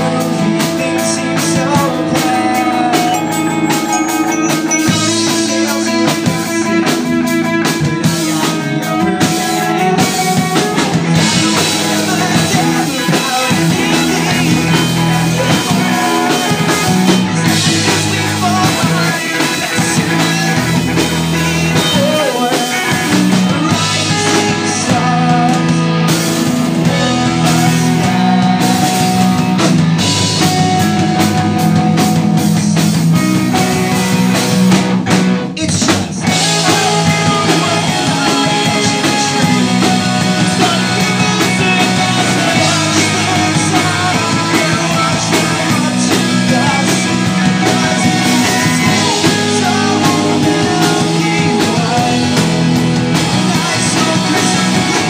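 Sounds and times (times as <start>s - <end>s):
person singing: 0.0s - 7.2s, 8.1s - 25.9s, 35.6s - 55.0s
drum kit: 0.0s - 55.0s
electric guitars: 0.0s - 55.0s.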